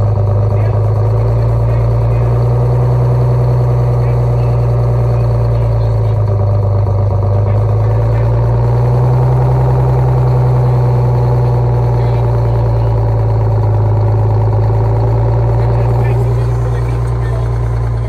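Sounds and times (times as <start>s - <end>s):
diesel bus engine idling: 0.0s - 18.0s.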